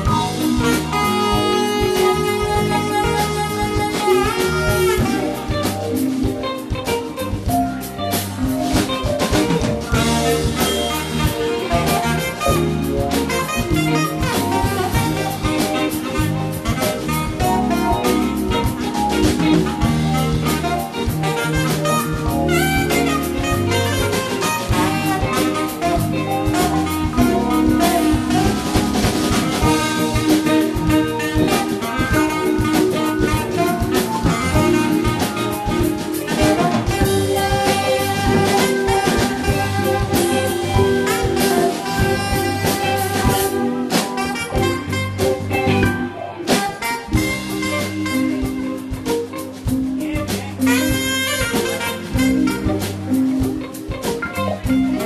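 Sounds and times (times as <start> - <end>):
jazz band playing: 0.0 - 55.0
saxophone melody: 0.0 - 55.0.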